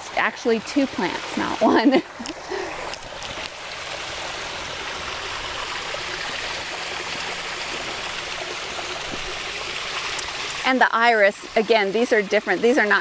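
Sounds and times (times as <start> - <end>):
stream babbling over stones: 0.0 - 13.0.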